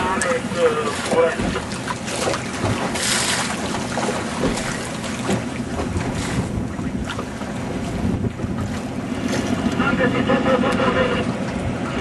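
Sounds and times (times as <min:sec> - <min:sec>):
water lapping against hull: 0:00.0 - 0:12.0
wind buffeting microphone: 0:00.0 - 0:12.0.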